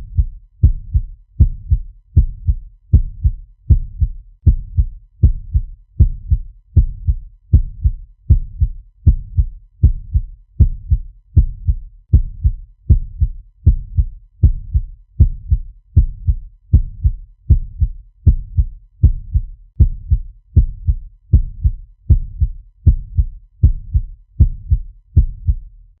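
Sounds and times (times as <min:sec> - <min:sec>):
fast heartbeat thumps: 0:00.0 - 0:25.7.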